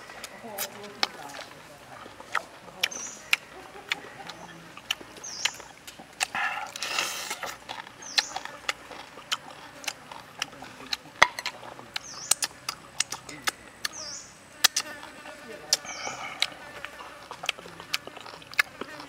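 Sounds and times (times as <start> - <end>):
lip-smacking and chewing: 0.0 - 14.0, 14.6 - 19.0
noisy bite or slurp: 0.0 - 14.0, 14.6 - 19.0.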